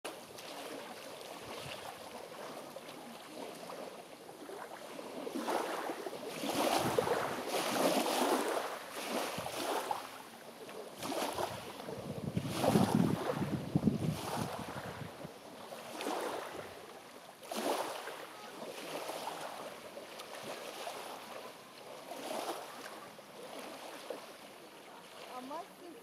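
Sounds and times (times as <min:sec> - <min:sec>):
waves lapping on shore: 0:00.1 - 0:26.0.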